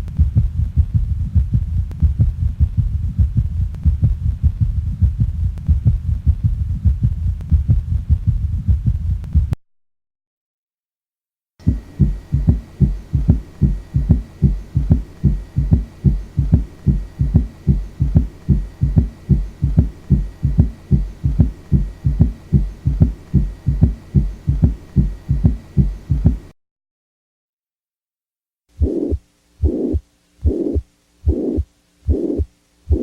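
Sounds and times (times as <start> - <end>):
heartbeat: 0.0 - 9.6, 11.6 - 26.6, 28.8 - 33.0.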